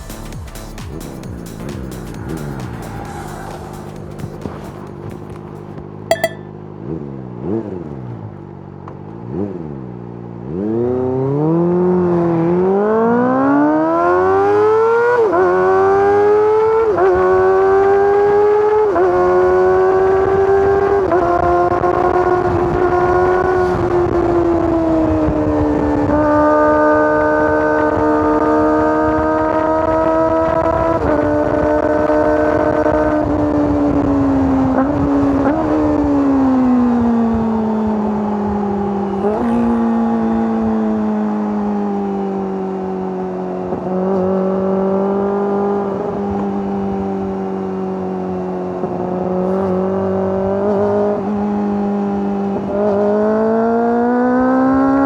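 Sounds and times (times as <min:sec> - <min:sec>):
motorcycle engine at high revs: 0:06.9 - 0:55.0.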